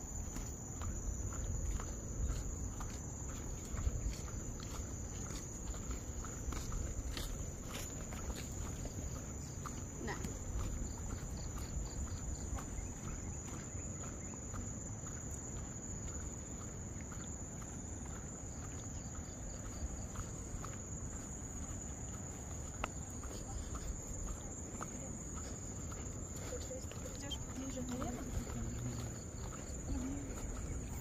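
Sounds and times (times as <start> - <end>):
footsteps ticking: 0.0 - 31.0
insects droning: 0.0 - 31.0.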